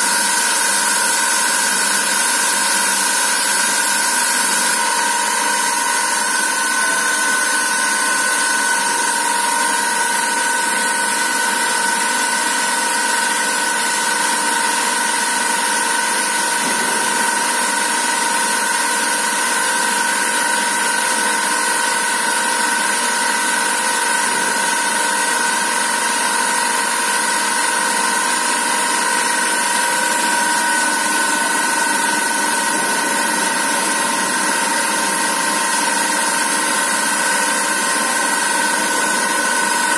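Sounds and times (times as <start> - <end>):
thread-rolling machine running: 0.0 - 39.9.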